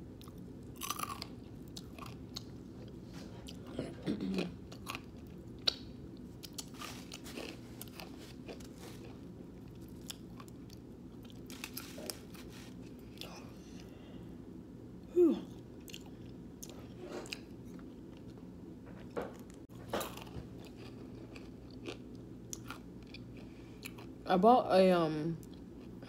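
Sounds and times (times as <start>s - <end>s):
person chewing: 0.2s - 13.9s, 15.8s - 18.4s, 19.4s - 24.2s.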